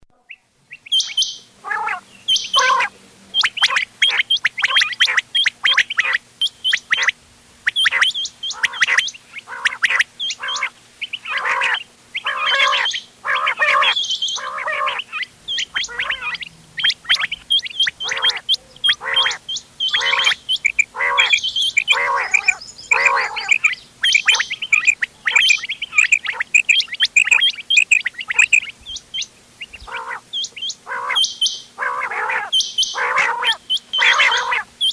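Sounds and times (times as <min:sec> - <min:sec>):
quails calling: 0:00.1 - 0:34.9.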